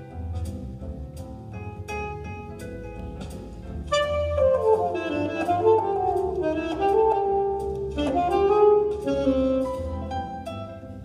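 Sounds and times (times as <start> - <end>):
piano chords: 0.0 - 11.0
saxophone jazz melody: 1.4 - 11.0.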